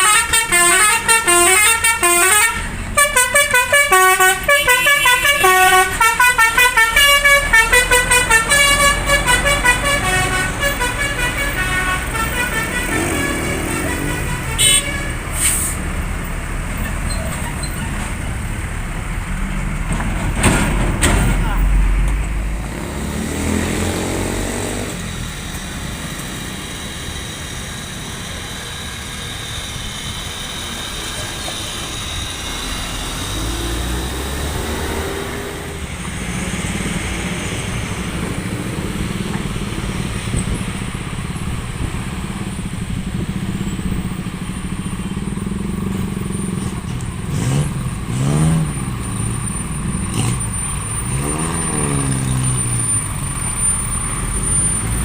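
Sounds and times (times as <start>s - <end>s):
heavy vehicles passing: 0.0s - 55.0s.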